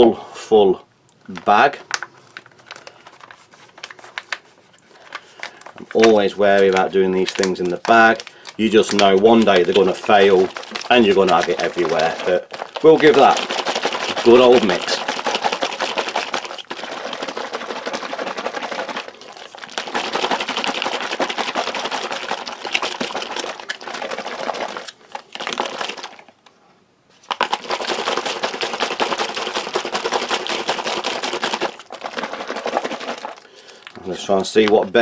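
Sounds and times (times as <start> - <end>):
foil pouch crinkling: 1.2 - 26.4, 27.2 - 35.0.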